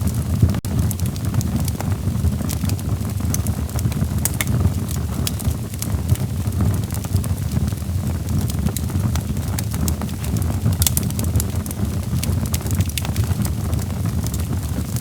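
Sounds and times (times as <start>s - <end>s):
fire crackling and popping: 0.0s - 15.0s
logs burning with low rumble: 0.0s - 15.0s.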